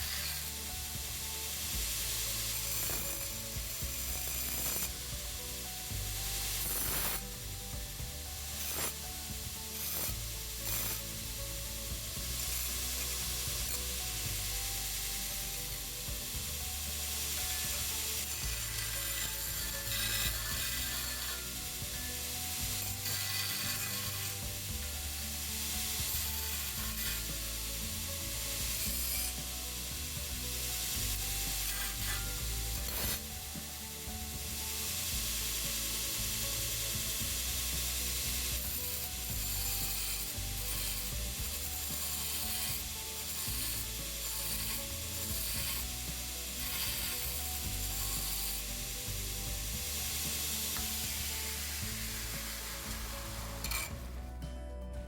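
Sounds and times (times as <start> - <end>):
electric drill boring through steel: 0.0 - 54.2.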